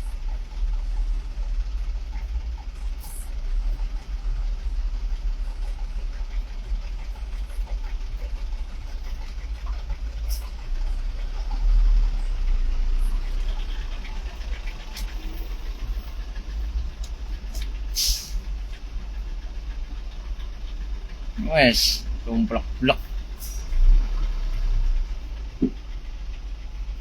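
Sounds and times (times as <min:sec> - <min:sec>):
vehicle engines idling in traffic: 0:00.0 - 0:27.0.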